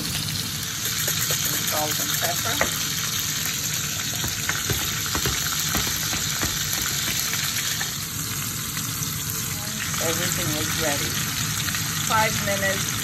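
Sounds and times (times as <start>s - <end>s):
meat and mushrooms sizzling in oil: 0.0s - 13.0s.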